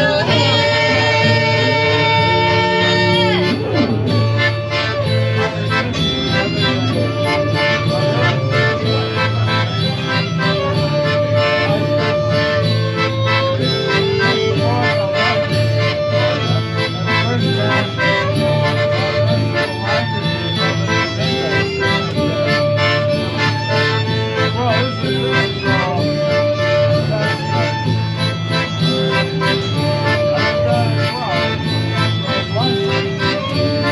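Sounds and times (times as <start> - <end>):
accordion melody: 0.0 - 33.9
fiddle: 0.0 - 33.9
sousaphone bass line: 0.0 - 33.9
strummed guitar: 0.0 - 33.9.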